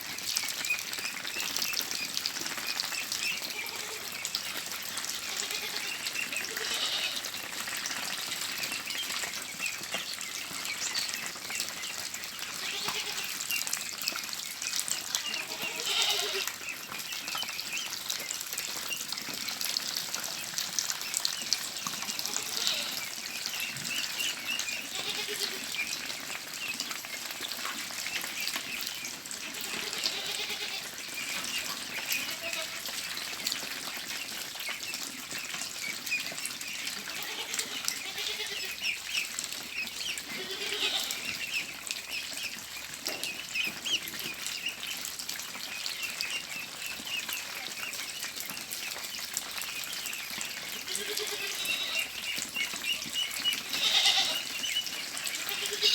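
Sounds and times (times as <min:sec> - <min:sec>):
flock of ducks quacking: 0:00.8 - 0:45.1, 0:45.7 - 0:55.9.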